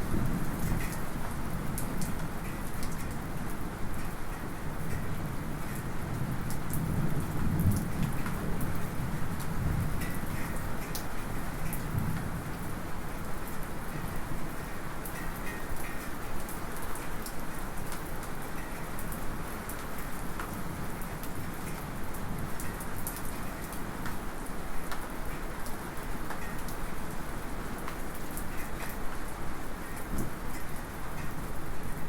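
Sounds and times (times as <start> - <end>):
light rain falling: 0.0 - 32.0.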